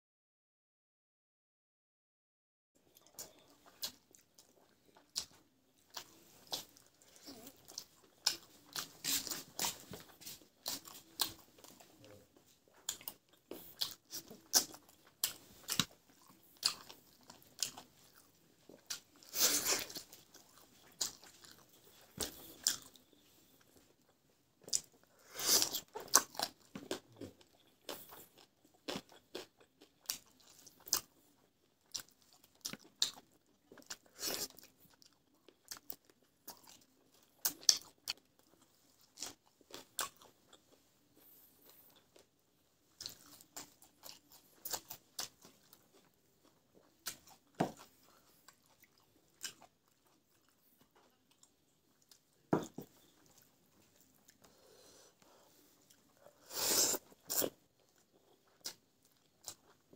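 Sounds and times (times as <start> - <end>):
person chewing and biting food: 3.0 - 23.1, 24.6 - 31.2, 31.8 - 40.6, 42.9 - 59.8.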